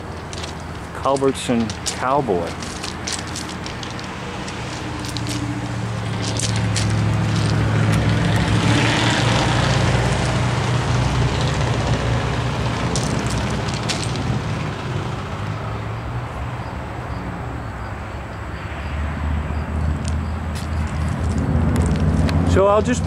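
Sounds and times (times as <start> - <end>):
engine humming: 0.0 - 17.5, 19.6 - 23.0.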